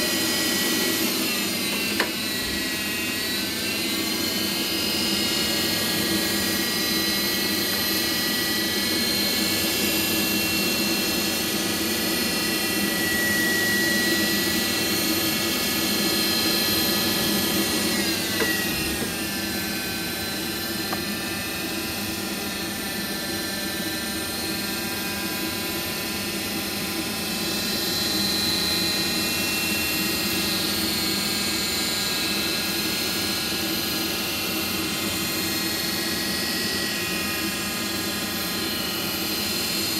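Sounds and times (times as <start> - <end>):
boiler humming with whine: 0.0 - 39.9.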